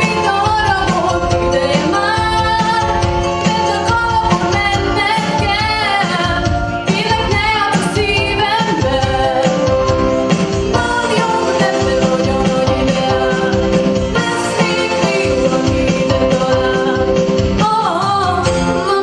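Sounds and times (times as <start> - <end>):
instrumental accompaniment with beat: 0.0 - 19.0
woman singing: 0.0 - 19.0.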